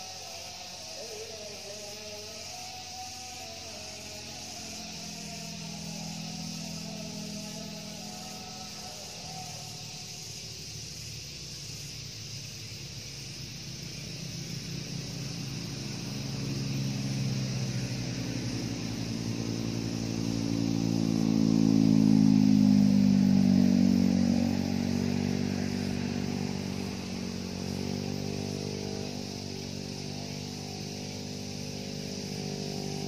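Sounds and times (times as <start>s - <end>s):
steady high hiss: 0.0s - 33.0s
vehicle engine passing: 0.0s - 33.0s.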